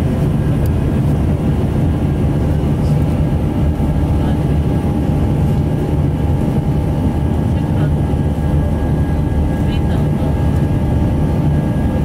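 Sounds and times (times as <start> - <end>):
airliner cabin low drone: 0.0 - 12.0.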